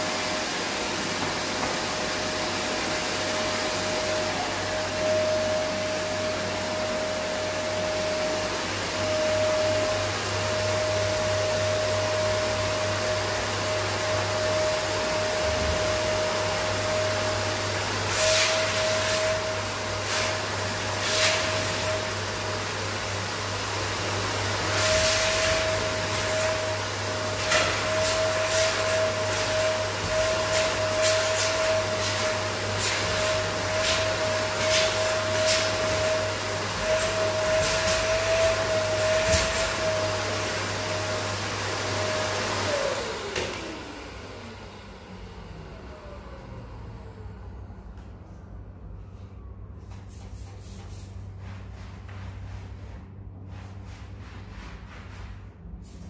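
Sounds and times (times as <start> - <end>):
vacuum cleaner running: 0.0 - 50.2.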